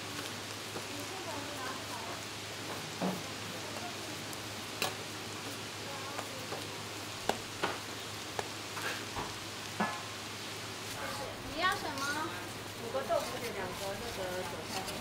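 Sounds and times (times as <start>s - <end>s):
buns sizzling on a griddle: 0.0s - 15.0s.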